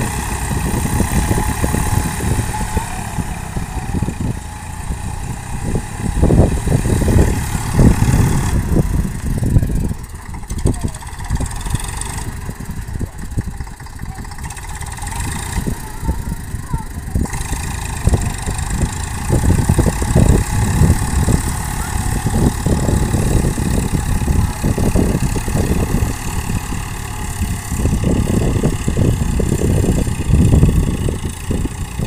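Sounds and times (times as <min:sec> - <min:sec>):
diesel tractor engine running: 0:00.0 - 0:32.0
tiller churning mud: 0:00.0 - 0:32.0.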